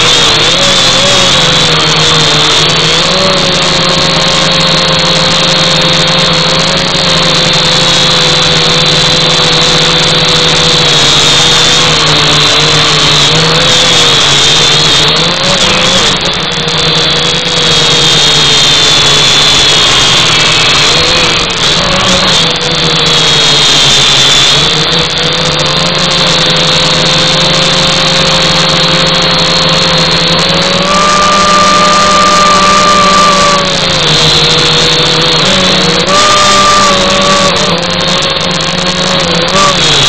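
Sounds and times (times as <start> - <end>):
quadcopter drone motors whining: 0.0 - 40.0.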